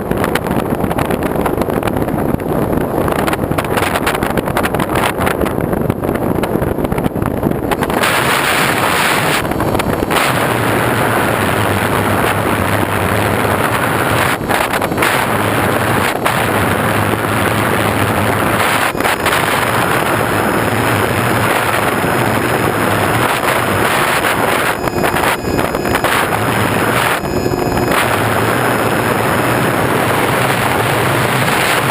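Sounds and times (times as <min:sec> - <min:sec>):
wind rushing over microphone: 0:00.0 - 0:31.9
low engine hum: 0:05.8 - 0:31.9.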